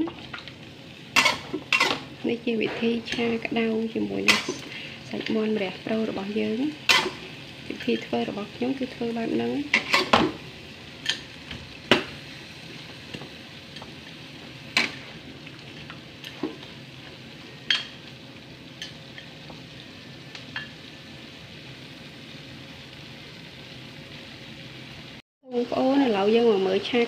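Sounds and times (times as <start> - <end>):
chicken sizzling in a wok: 0.0 - 27.0.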